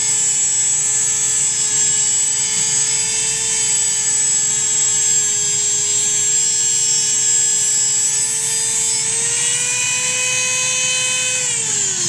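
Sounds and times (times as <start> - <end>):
rotary tool grinding wood: 0.0 - 12.0.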